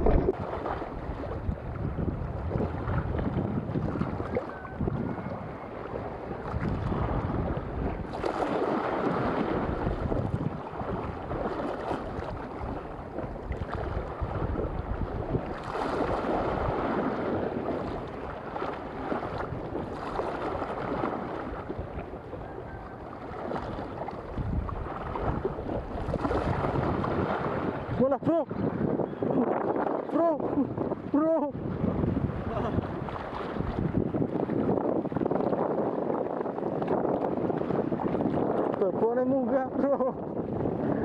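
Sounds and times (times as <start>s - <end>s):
waves washing: 0.0s - 41.0s
wind buffeting microphone: 0.0s - 41.0s.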